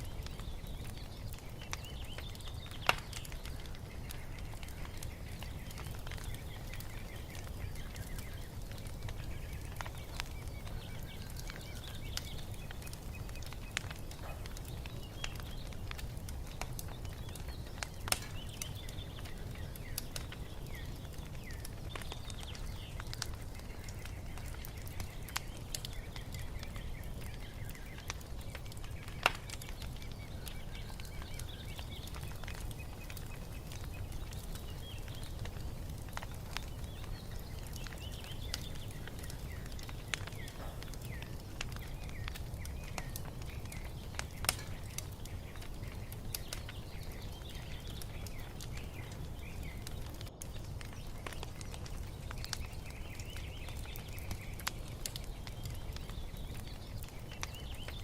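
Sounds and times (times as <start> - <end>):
small birds chirping: 0.0 - 58.0
wood fire crackling: 0.0 - 58.0.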